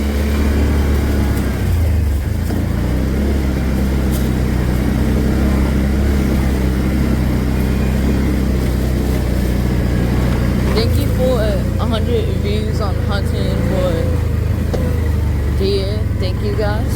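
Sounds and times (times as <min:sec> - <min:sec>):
vehicle engine running steadily: 0:00.0 - 0:16.9.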